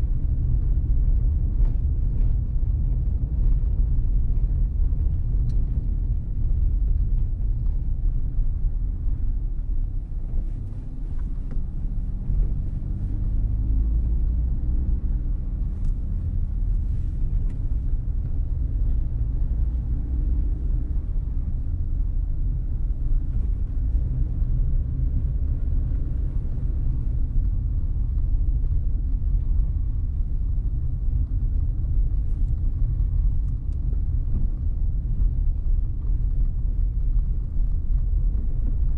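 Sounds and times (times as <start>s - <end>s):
car driving slowly: 0.0s - 38.9s.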